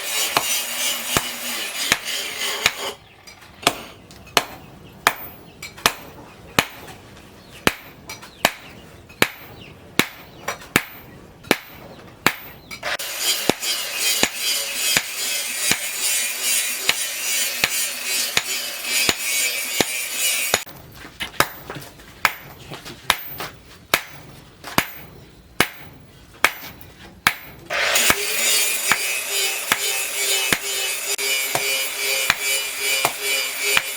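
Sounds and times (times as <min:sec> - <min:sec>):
hammer striking steel on anvil: 0:00.0 - 0:03.0, 0:03.6 - 0:07.0, 0:07.6 - 0:20.8, 0:21.4 - 0:33.9.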